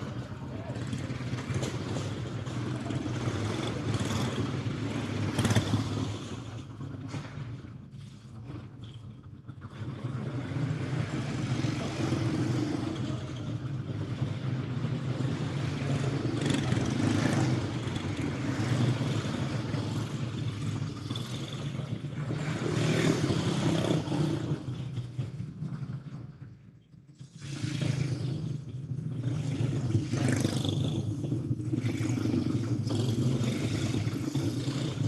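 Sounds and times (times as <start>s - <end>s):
small race car engines passing: 0.0s - 35.0s.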